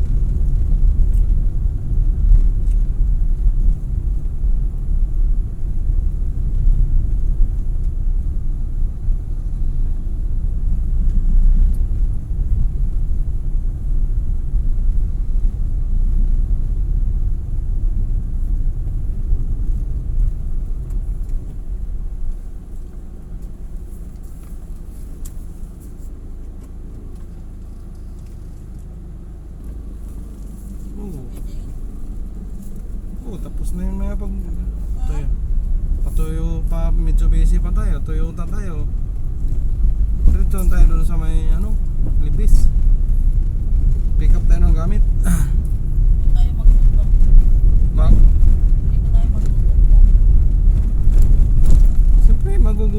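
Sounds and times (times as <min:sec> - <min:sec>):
vehicle road and engine rumble: 0:00.0 - 0:52.9.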